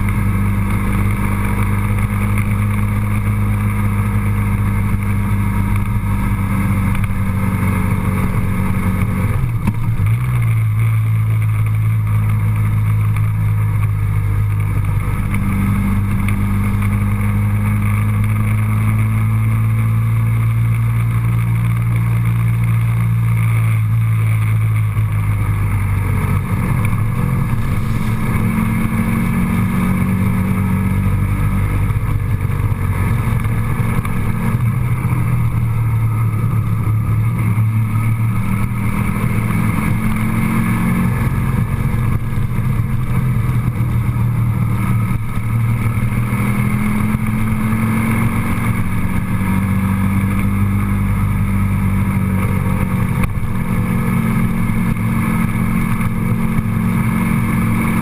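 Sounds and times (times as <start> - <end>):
engine drone: 0.0 - 58.0
road noise: 0.0 - 58.0.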